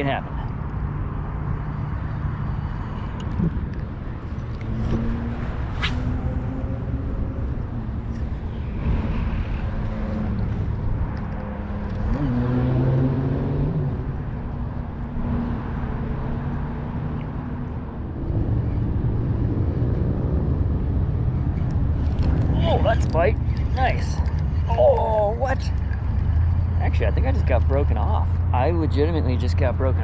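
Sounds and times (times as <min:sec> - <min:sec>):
distant engine drone: 0:00.0 - 0:30.0
wind rumble on microphone: 0:00.0 - 0:30.0.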